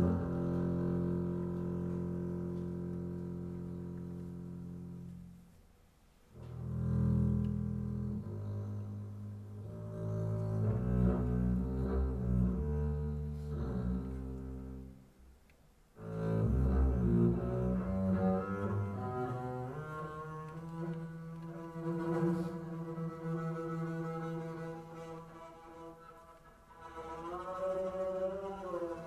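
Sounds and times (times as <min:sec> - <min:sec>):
bowed double bass: 0:00.0 - 0:29.0.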